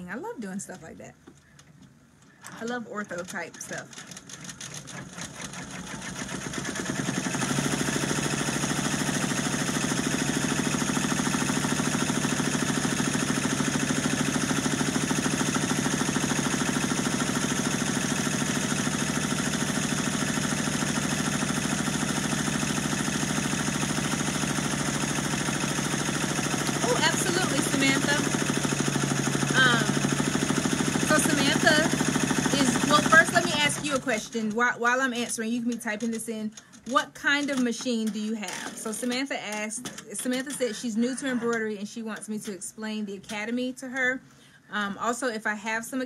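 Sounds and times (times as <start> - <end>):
embroidery machine stitching: 1.4 - 42.6.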